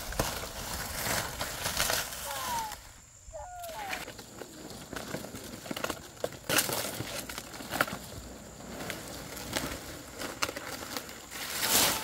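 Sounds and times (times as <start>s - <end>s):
dry palm leaves crackling: 0.0s - 12.0s.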